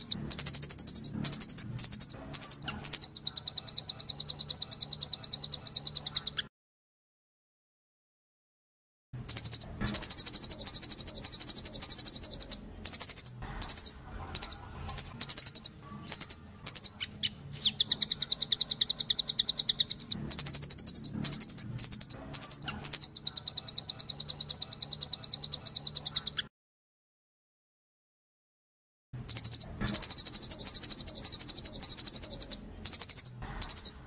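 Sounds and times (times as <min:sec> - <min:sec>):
bird calling in rapid trills: 0:00.0 - 0:06.5, 0:09.2 - 0:26.5, 0:29.2 - 0:34.0.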